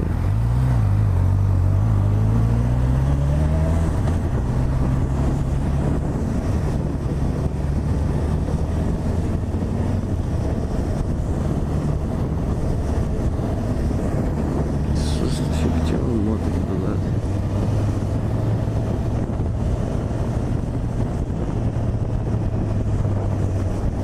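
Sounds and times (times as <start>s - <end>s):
motorcycle engine accelerating: 0.0s - 24.0s
wind noise on microphone: 0.0s - 24.0s.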